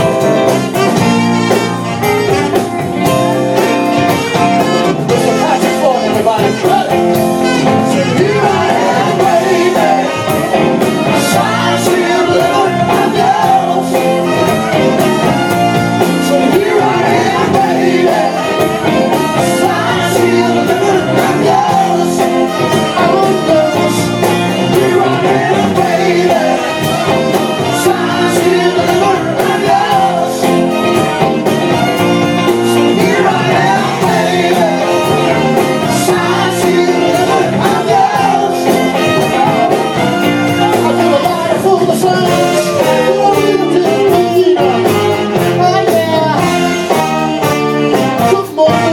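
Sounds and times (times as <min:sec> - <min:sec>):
live band playing soul song: 0:00.0 - 0:48.9
person singing: 0:04.4 - 0:48.9.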